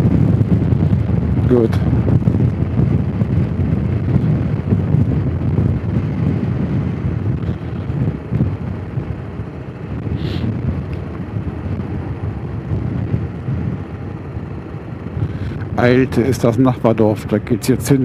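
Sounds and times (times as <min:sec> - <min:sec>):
wind noise on microphone: 0:00.0 - 0:18.0.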